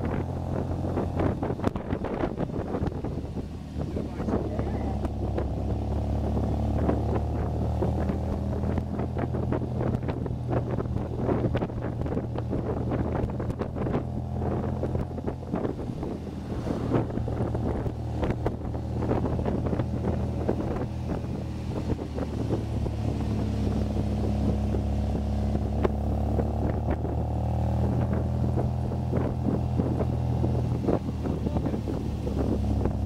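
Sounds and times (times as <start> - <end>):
car engine running: 0.0 - 33.0
wind buffeting microphone: 0.0 - 33.0.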